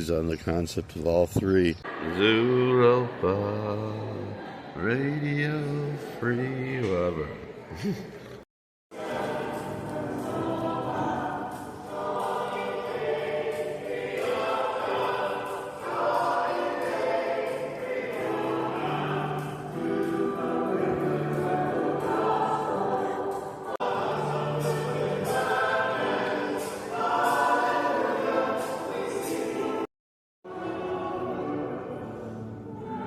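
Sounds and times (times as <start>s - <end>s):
choir singing held chords: 1.8s - 6.9s, 8.9s - 29.9s, 30.5s - 33.0s.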